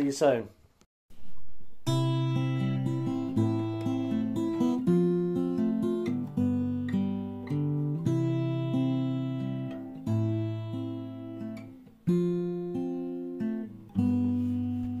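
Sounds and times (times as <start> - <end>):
acoustic guitar strumming chords: 1.2 - 15.0.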